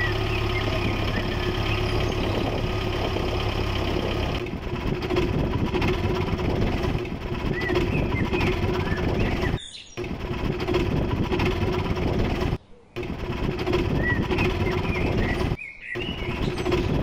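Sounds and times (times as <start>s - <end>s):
small motor droning: 0.0s - 17.0s.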